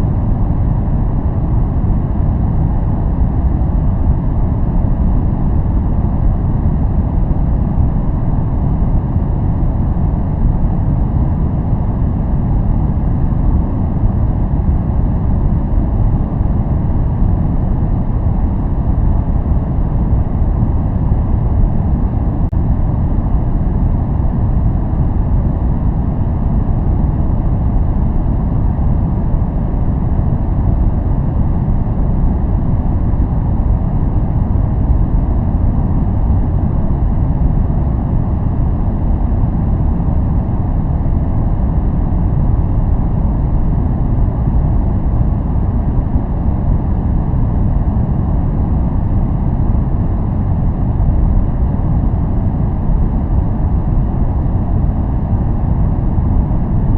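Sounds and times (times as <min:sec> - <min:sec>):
deep even rumble noise: 0:00.0 - 0:56.9.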